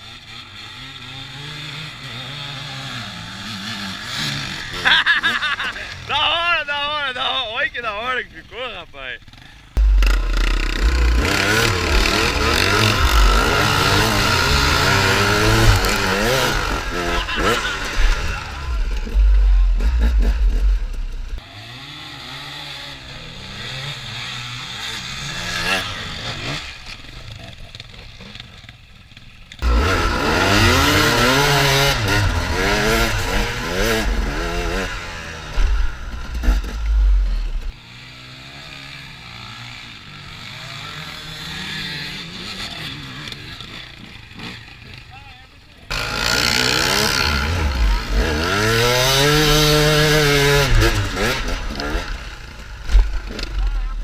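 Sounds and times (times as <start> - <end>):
motorcycle engine revving: 0.0 - 6.2, 9.2 - 54.0.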